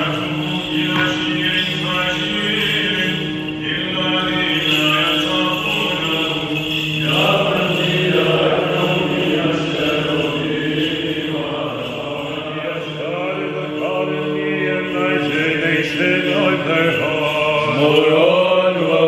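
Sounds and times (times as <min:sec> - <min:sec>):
men chanting unaccompanied: 0:00.0 - 0:19.0.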